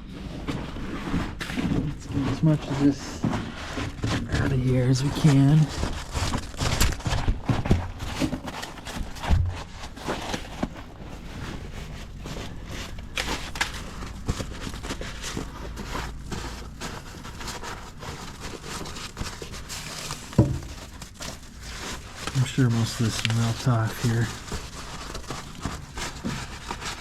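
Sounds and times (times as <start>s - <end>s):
snow scraping and crunching: 0.0s - 27.0s.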